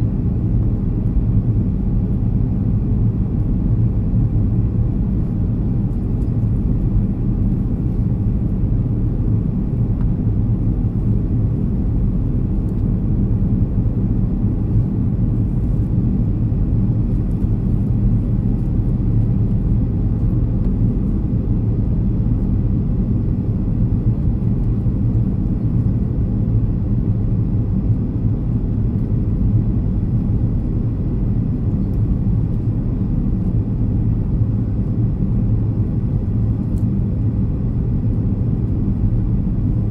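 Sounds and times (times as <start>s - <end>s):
airliner engines rumbling: 0.0s - 39.9s.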